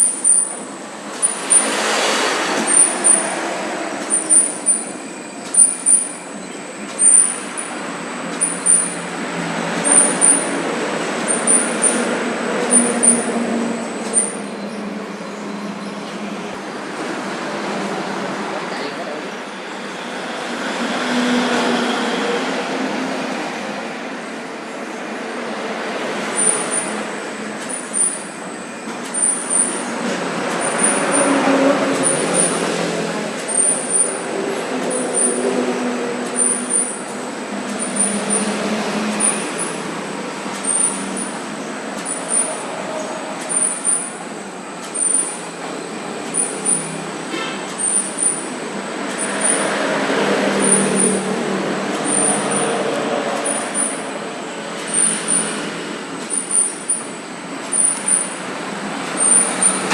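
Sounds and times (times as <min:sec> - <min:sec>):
sharp machine clicks: 0:00.0 - 0:14.6, 0:25.9 - 0:59.9
machine motor hum: 0:00.0 - 0:20.6, 0:23.9 - 0:59.9.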